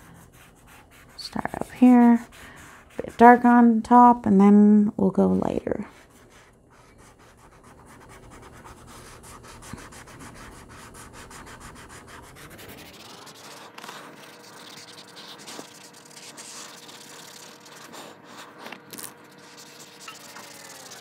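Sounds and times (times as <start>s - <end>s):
paint pen rubbing on paper: 0.0s - 3.7s, 5.8s - 21.0s.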